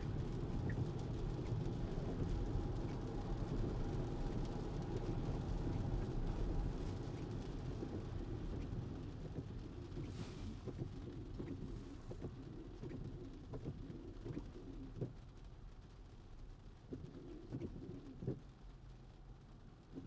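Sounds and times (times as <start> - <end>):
road and tyre noise in car: 0.0 - 20.0
soft irregular ticks: 0.2 - 20.0.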